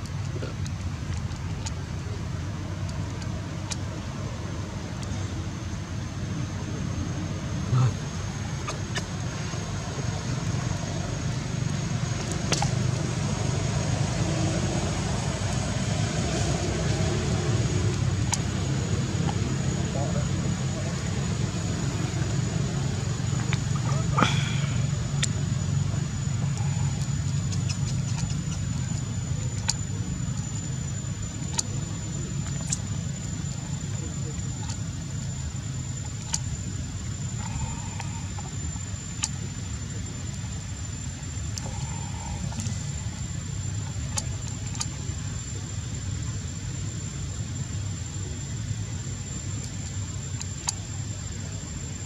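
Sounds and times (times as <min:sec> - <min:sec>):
engine idling hum: 0:00.0 - 0:52.0
low outdoor rumble: 0:00.0 - 0:52.0.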